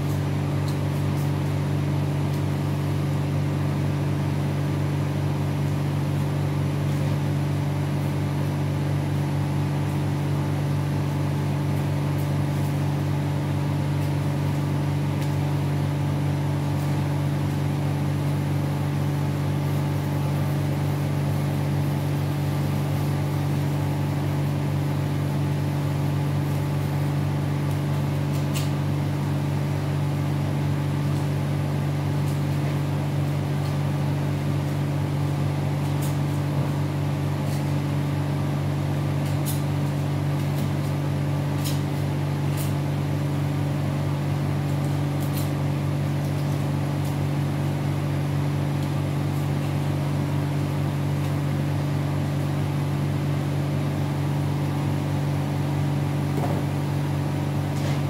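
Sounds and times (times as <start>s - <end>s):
refrigeration unit humming: 0.0s - 58.0s.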